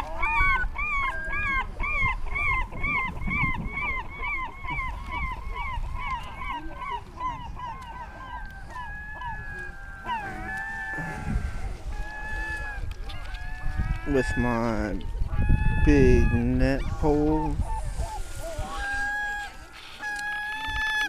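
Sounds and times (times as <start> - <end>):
gull calling: 0.0 - 21.0.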